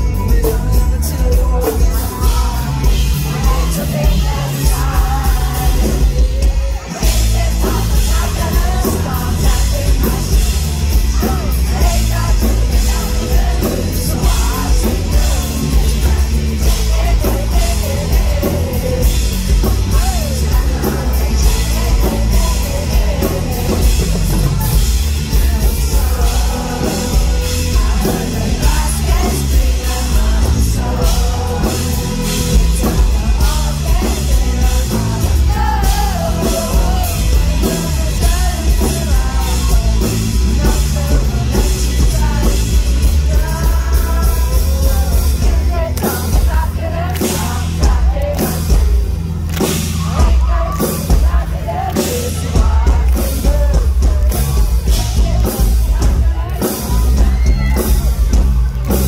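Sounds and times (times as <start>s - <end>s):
lead vocal singing: 0.0s - 59.0s
live pop-rock band: 0.0s - 59.0s.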